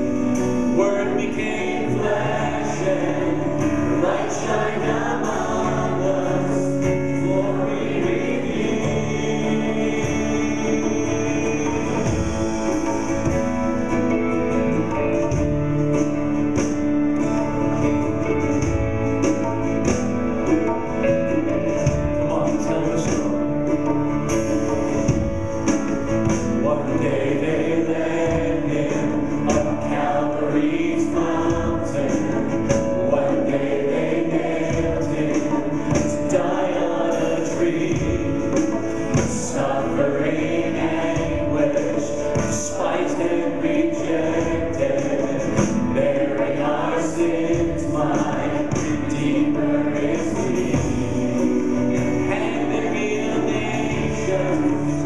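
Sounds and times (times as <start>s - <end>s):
choir singing gospel: 0.0s - 55.0s
live band playing: 0.0s - 55.0s.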